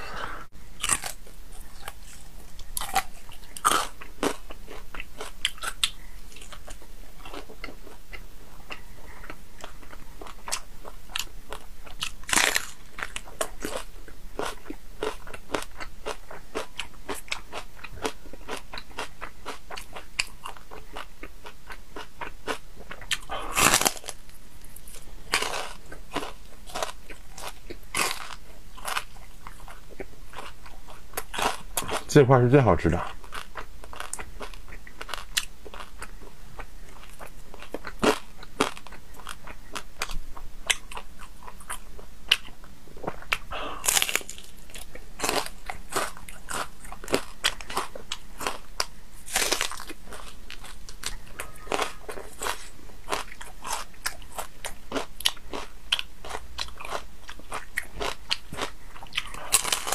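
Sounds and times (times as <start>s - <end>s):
crunching and chewing: 0.7s - 32.2s, 32.8s - 59.9s.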